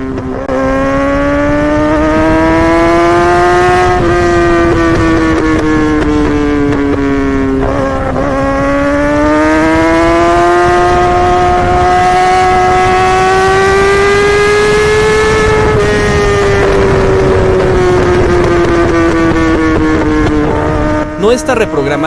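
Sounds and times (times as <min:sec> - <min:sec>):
motorcycle engine high revs: 0:00.0 - 0:22.0.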